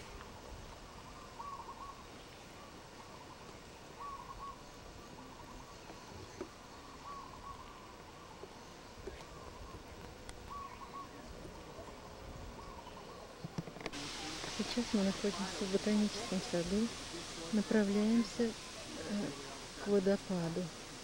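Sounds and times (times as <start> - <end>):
bird calling: 0.0 - 20.8
faint background hiss: 0.0 - 21.0.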